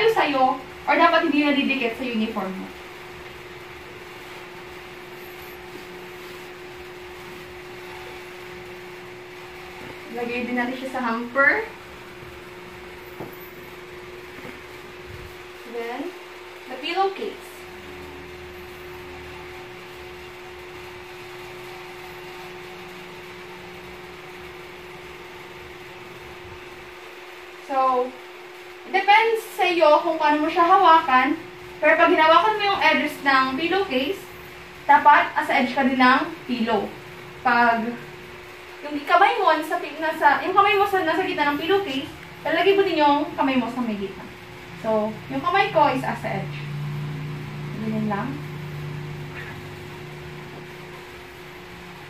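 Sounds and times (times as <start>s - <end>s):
air conditioner humming: 0.0s - 52.0s.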